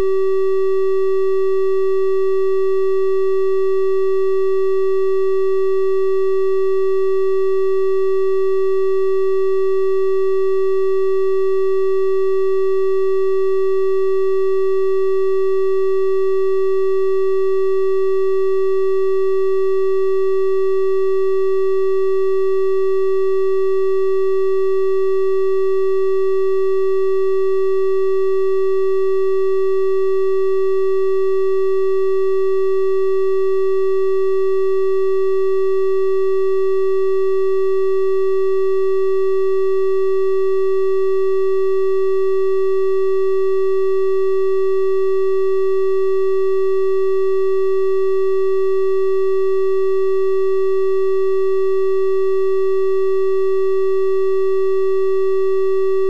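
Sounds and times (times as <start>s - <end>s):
electronic test tone: 9.6s - 56.0s.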